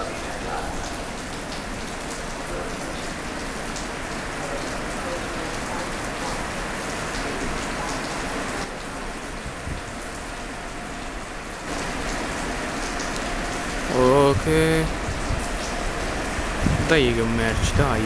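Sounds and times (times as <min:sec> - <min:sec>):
light rain falling: 0:00.0 - 0:18.0.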